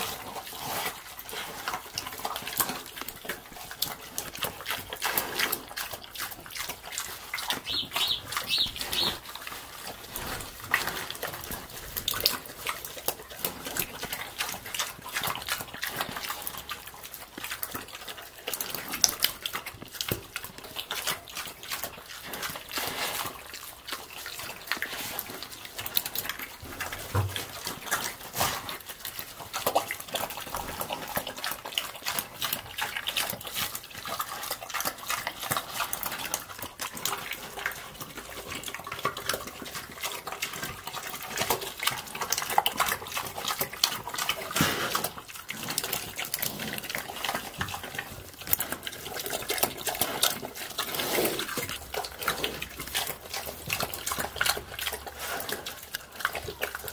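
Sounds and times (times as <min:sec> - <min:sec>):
pig smacking and slurping: 0:00.0 - 0:56.9.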